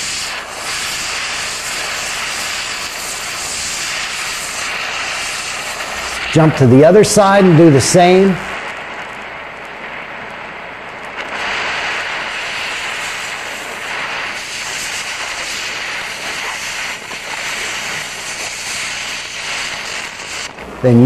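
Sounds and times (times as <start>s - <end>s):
cutting torch hissing: 0.0s - 21.0s.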